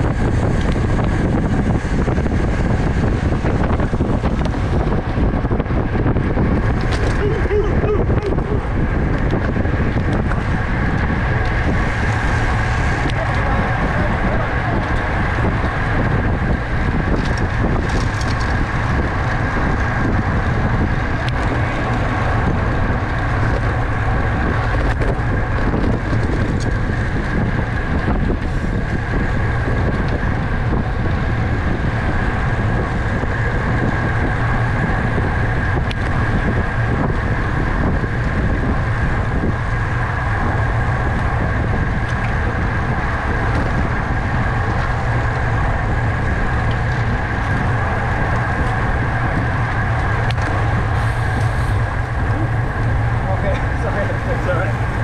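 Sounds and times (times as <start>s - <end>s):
bicycle tyre and drivetrain noise: 0.0s - 55.0s
thin steady whine: 0.0s - 55.0s
wind rush on microphone: 0.0s - 55.0s.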